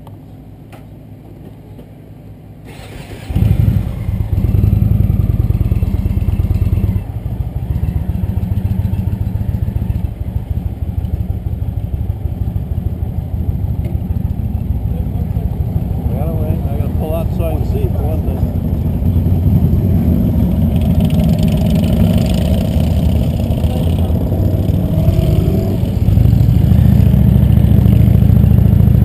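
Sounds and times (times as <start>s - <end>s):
motorcycle engine: 2.6s - 29.0s.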